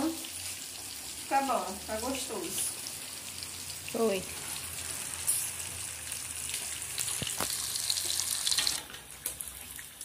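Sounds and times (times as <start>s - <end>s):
fish sizzling in hot oil: 0.0s - 9.8s.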